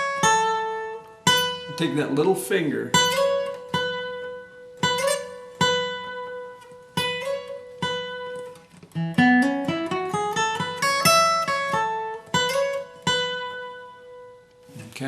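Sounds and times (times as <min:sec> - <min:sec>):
acoustic guitar picked notes: 0:00.0 - 0:15.0.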